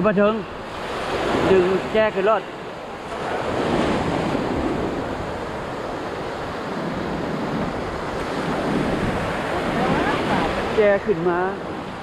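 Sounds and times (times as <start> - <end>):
ocean waves washing on sand: 0.0 - 12.0
wind rumbling on microphone: 0.0 - 12.0.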